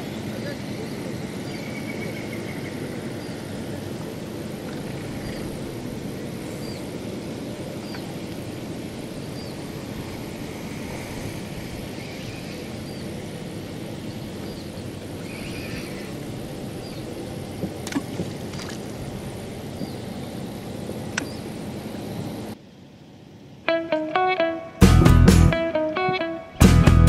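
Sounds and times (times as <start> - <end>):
low outdoor rumble: 0.0 - 23.8.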